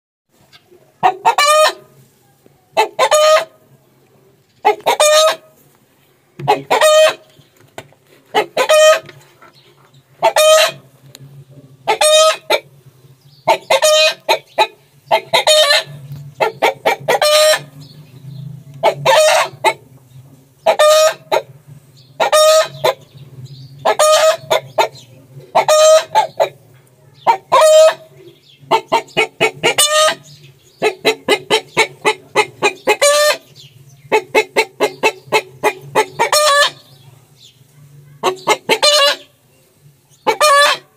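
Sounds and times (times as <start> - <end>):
chickens clucking: 0.4 - 40.9.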